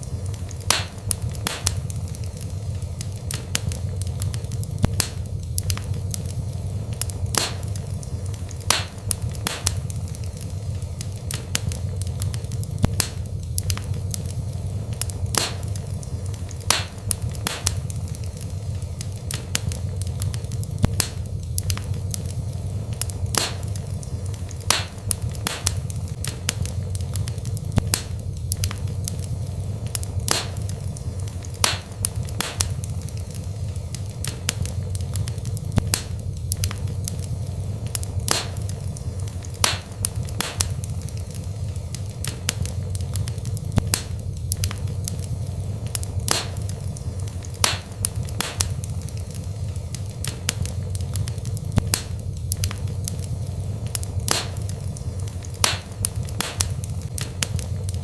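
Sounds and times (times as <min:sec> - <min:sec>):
low rumble of flames: 0:00.0 - 0:58.0
wood fire crackling: 0:00.0 - 0:58.0.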